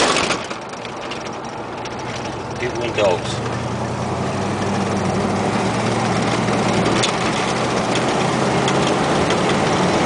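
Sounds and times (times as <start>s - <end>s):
car engine cruising: 0.0s - 10.0s
road noise: 0.0s - 10.0s.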